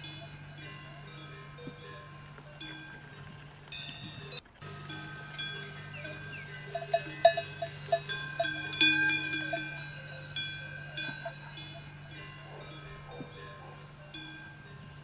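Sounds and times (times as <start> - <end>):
metal bells clanking: 0.0 - 15.0
steady low hum: 0.0 - 15.0.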